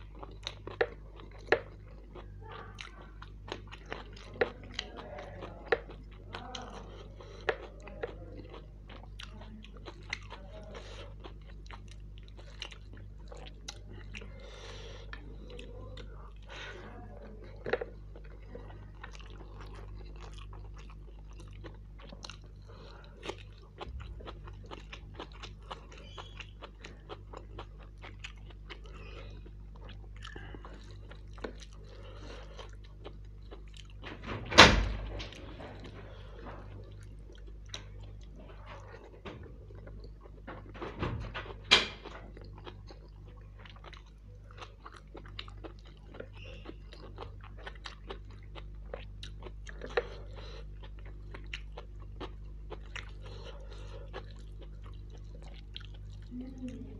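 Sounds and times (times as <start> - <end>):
man chewing with wet smacks: 0.0 - 56.9.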